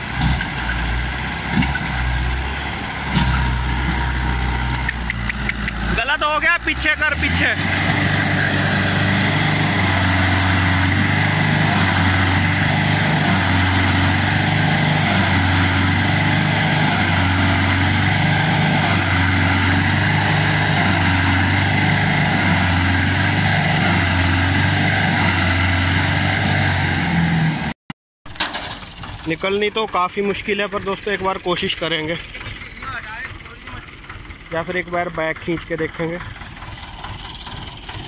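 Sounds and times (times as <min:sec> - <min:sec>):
tractor diesel engine pulsing: 0:00.0 - 0:27.7, 0:28.3 - 0:38.0.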